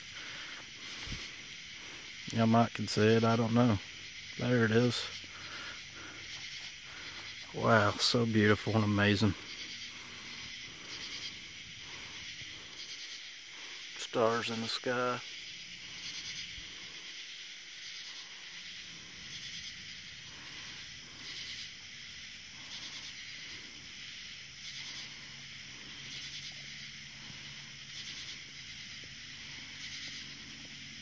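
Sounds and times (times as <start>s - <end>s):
night insect chorus: 0.0s - 31.0s.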